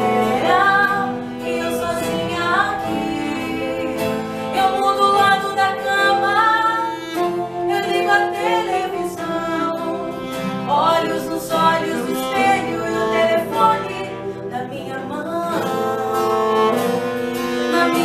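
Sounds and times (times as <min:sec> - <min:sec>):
sliding melodic lead line: 0:00.0 - 0:18.0
slow ballad on keyboard and guitar: 0:00.0 - 0:18.0.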